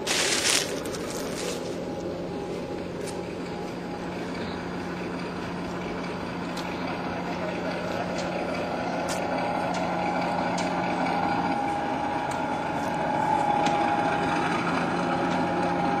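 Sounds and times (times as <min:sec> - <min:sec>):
high steady whine: 0:00.0 - 0:16.0
miniature locomotive drone: 0:00.0 - 0:16.0.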